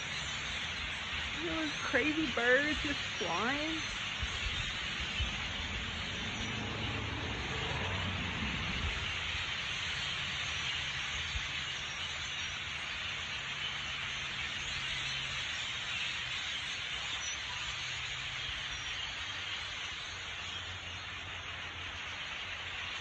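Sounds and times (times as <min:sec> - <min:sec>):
flock of birds squawking: 0:00.0 - 0:23.0.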